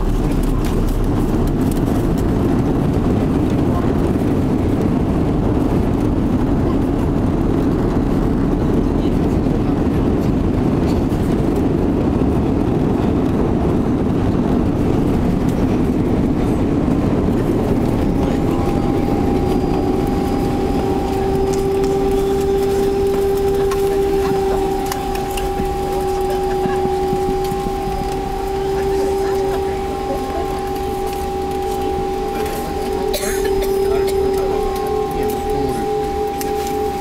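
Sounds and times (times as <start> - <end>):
rumble of engines and wheels: 0.0 - 37.0
steady two-pitch whine: 0.0 - 37.0.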